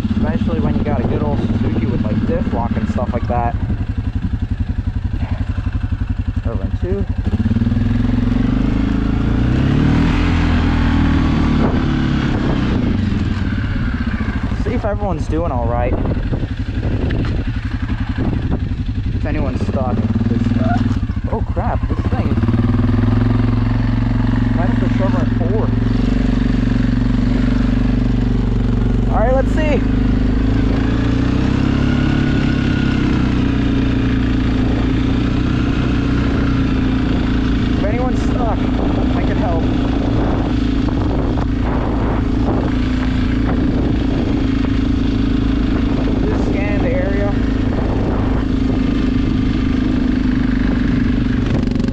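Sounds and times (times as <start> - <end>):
quad bike engine under throttle: 0.0 - 51.9.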